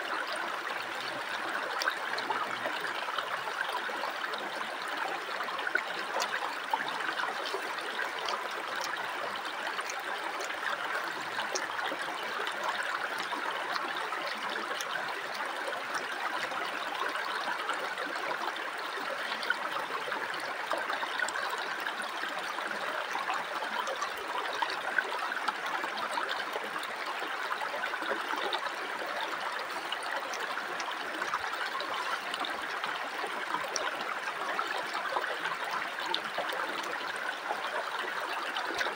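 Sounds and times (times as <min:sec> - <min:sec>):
water babbling over stones: 0:00.0 - 0:38.9.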